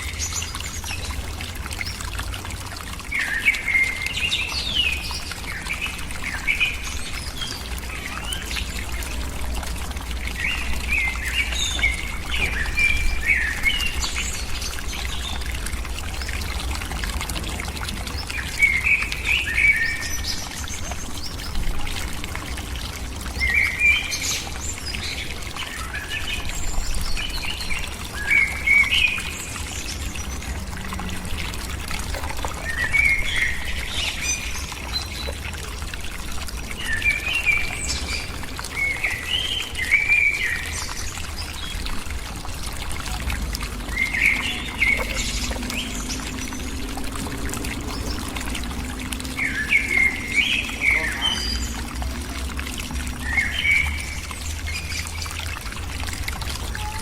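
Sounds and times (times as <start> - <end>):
birds chirping: 0.0 - 57.0
rushing water: 0.0 - 57.0.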